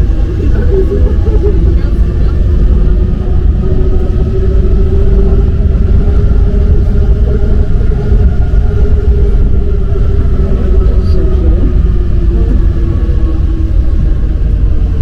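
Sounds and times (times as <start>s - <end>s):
metro train rumbling: 0.0s - 15.0s
train whine: 0.0s - 15.0s.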